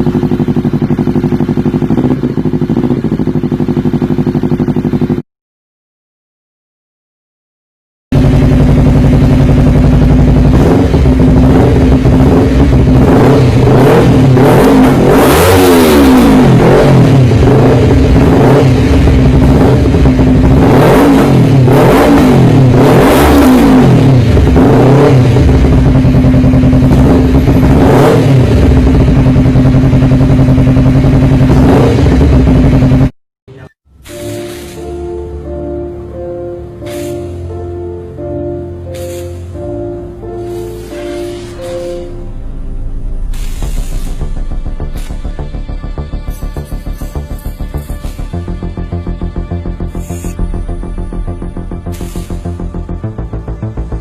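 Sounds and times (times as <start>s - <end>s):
motorcycle engine idling and revving: 0.0s - 5.2s, 8.1s - 54.0s.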